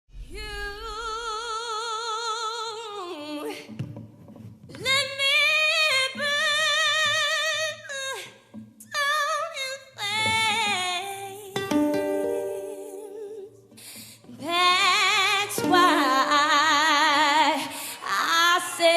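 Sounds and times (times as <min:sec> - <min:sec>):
woman singing with vibrato: 0:00.2 - 0:03.8, 0:04.7 - 0:18.9.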